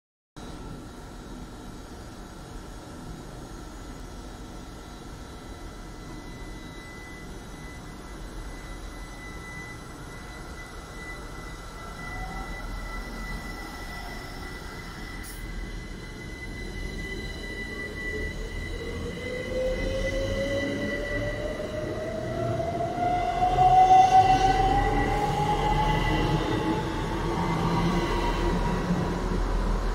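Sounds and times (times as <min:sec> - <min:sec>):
low train rumble: 0:00.4 - 0:29.9.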